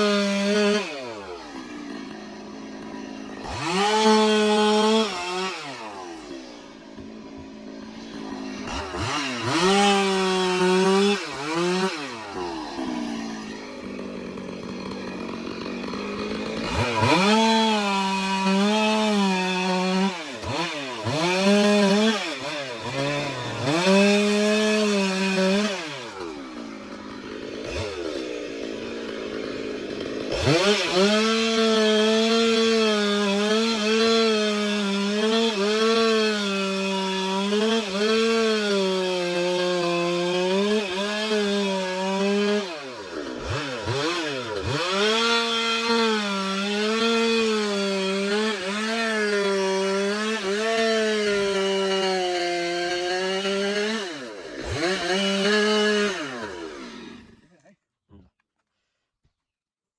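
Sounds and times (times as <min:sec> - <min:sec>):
chainsaw idling: 0:00.0 - 0:57.6
chainsaw cutting a log: 0:00.0 - 0:57.8.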